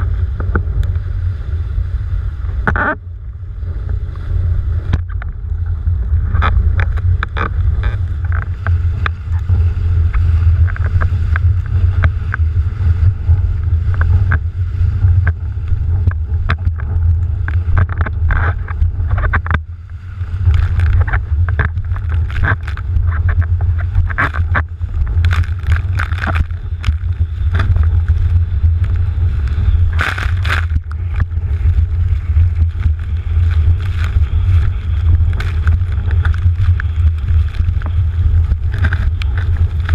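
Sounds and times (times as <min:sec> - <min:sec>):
water rushing and spray splashing: 0:00.0 - 0:39.9
wind buffeting microphone: 0:00.0 - 0:39.9.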